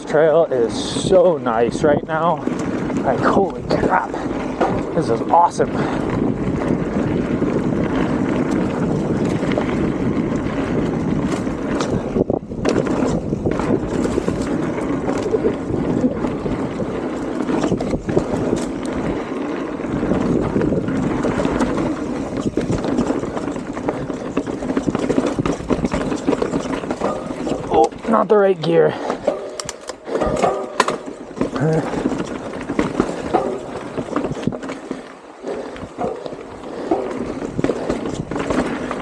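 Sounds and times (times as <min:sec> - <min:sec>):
wind noise on microphone: 0:00.0 - 0:28.1, 0:28.8 - 0:39.0
bike clicks and rattles: 0:00.0 - 0:39.0
tyre noise on dirt trail: 0:00.0 - 0:39.0.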